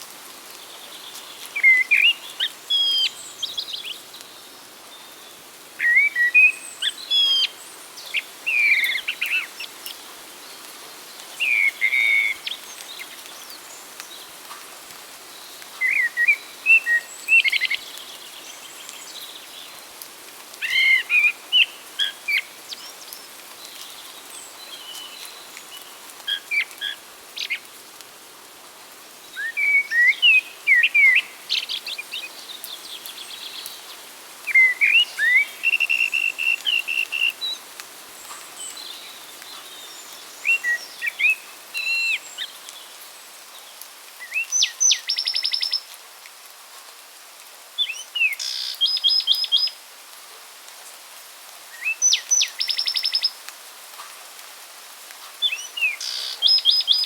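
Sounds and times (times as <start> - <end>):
songbirds singing: 0.0 - 27.9, 29.0 - 46.0, 47.8 - 49.8, 51.7 - 53.5, 55.3 - 57.0
faint background hiss: 0.0 - 57.0.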